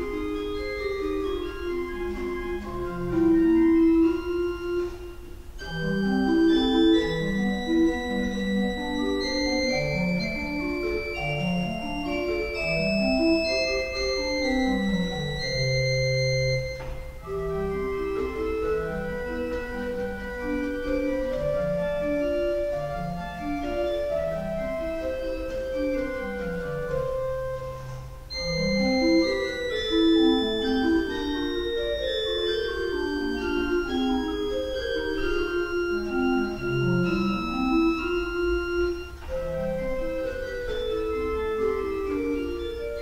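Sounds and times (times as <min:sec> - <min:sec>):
pipe organ playing: 0:00.0 - 0:43.0.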